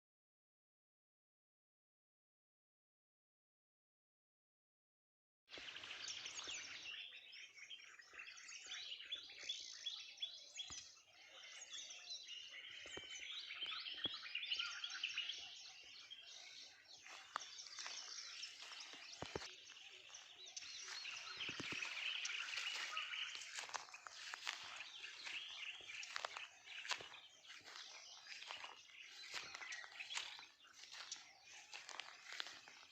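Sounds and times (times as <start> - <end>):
birds chirping and calling: 5.5 - 32.9.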